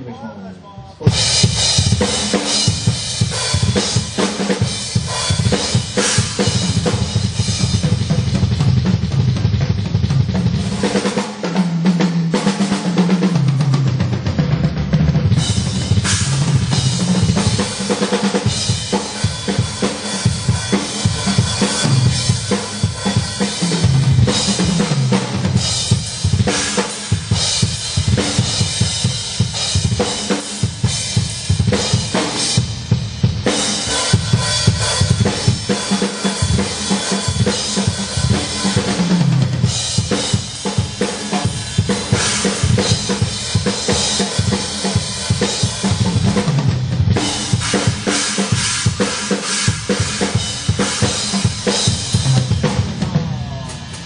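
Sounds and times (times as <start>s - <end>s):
drum kit playing: 0.0s - 54.0s.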